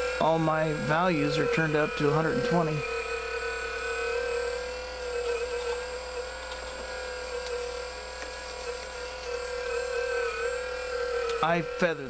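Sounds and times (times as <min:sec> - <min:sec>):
hydraulic pump whining: 0:00.0 - 0:12.0.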